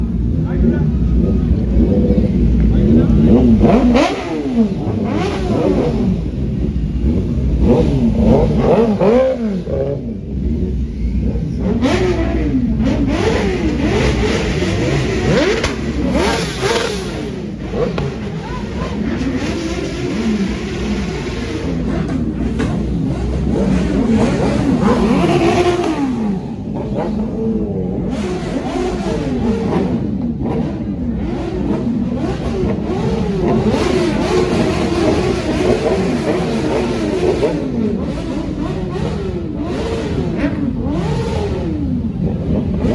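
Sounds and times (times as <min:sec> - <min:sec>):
engines running rumble: 0:00.0 - 0:42.9
motorcycle engines revving: 0:00.0 - 0:42.9.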